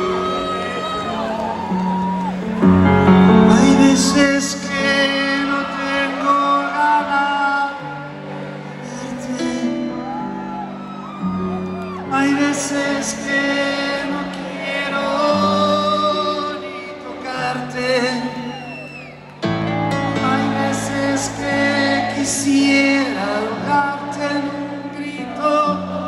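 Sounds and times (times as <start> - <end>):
person singing: 0.0 - 10.8, 11.5 - 26.0.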